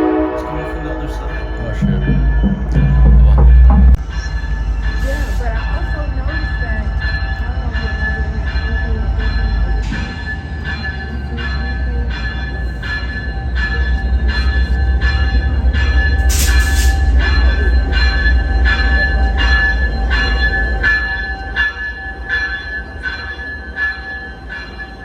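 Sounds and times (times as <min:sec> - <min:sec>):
locomotive bell ringing: 0:00.0 - 0:25.0
diesel engine rumble: 0:00.4 - 0:21.7.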